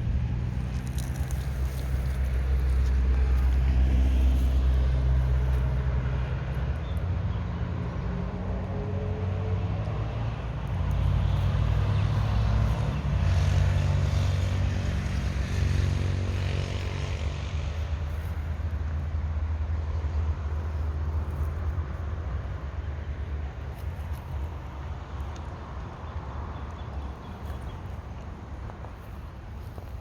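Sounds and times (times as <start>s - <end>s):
vehicle passing by: 0.0s - 30.0s.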